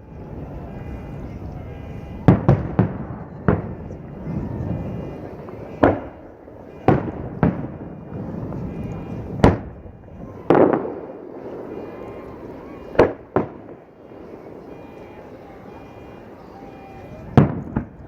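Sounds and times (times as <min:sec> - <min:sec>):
firework shells booming: 0:01.7 - 0:18.0.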